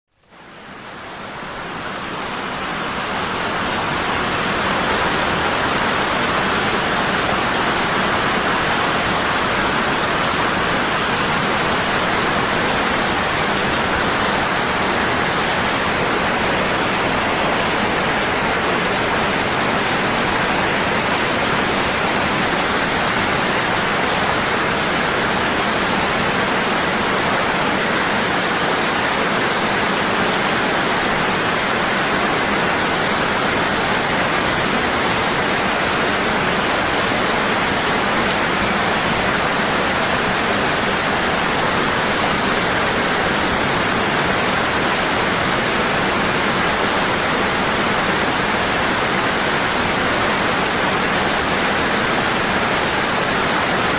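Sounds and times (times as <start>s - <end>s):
waterfall rushing: 0.3s - 53.9s.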